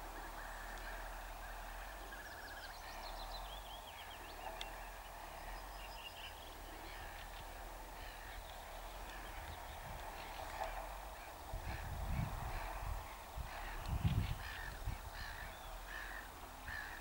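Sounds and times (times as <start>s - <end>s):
birds chirping: 0.0s - 17.0s
steady background hum: 0.0s - 17.0s.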